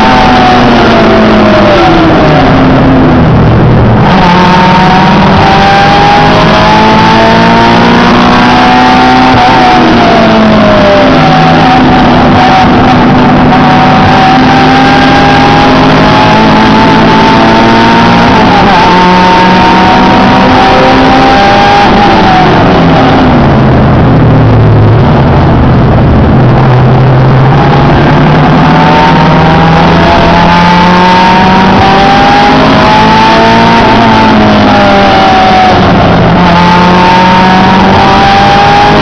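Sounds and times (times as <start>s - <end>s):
car engine revving high: 0.0s - 39.0s.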